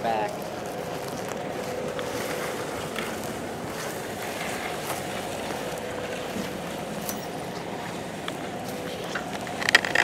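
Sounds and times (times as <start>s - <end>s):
truck engine idling: 0.0s - 10.0s
footsteps on dry grass: 0.2s - 9.6s.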